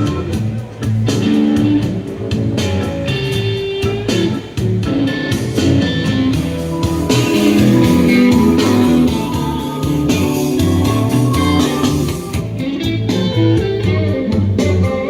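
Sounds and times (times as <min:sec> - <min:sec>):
guitar music with bass line: 0:00.0 - 0:15.0.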